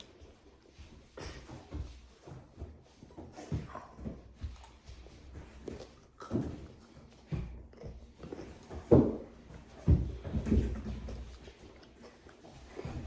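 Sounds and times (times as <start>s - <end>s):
handling thumps and knocks: 1.2s - 11.6s.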